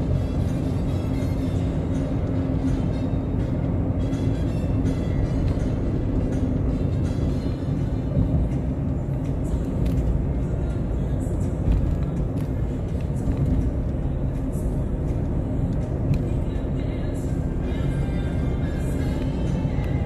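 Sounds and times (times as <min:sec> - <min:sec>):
car cabin road rumble: 0:00.0 - 0:20.0
music playing: 0:00.0 - 0:20.0.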